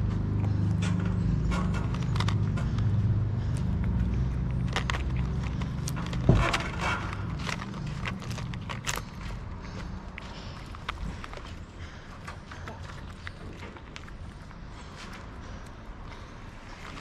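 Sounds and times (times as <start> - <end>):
engine idling: 0.0 - 17.0
cat crunching food: 0.2 - 17.0.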